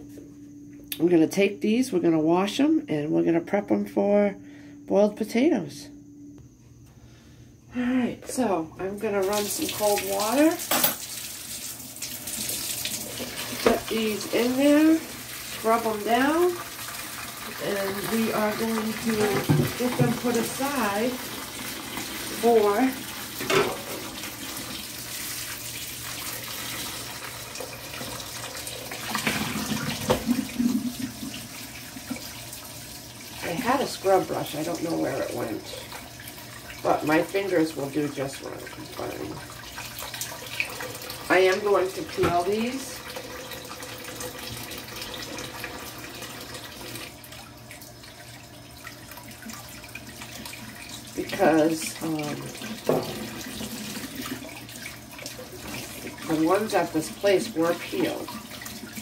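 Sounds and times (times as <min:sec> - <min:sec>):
water running from faucet into sink: 0:08.4 - 0:59.0.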